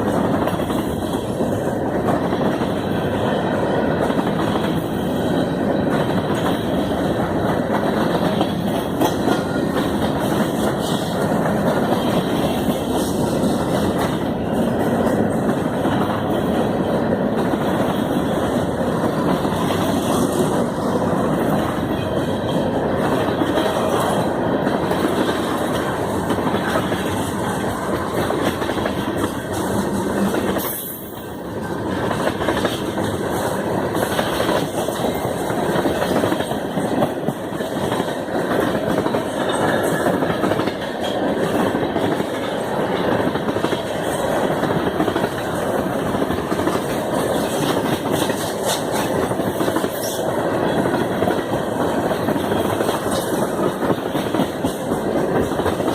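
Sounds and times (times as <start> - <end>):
freight train cars rolling on rails: 0.0 - 55.9.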